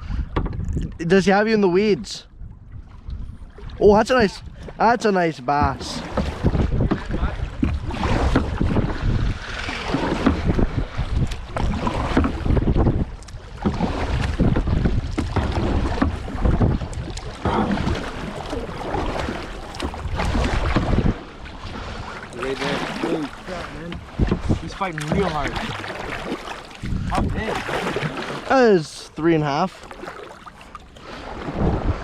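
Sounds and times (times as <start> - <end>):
wind buffeting microphone: 0.0 - 28.6, 31.0 - 32.0
kayak knocks and clatter: 0.1 - 1.4, 2.5 - 32.0.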